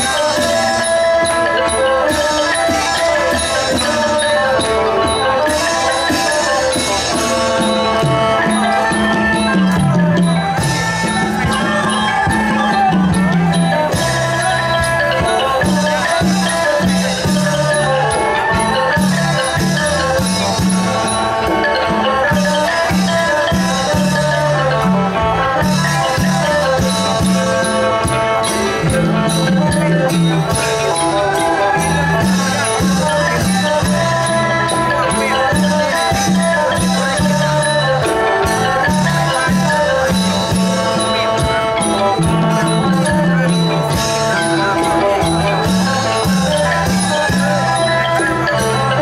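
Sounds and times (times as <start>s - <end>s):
live folk band music: 0.0s - 49.0s
wooden xylophone notes: 0.0s - 49.0s.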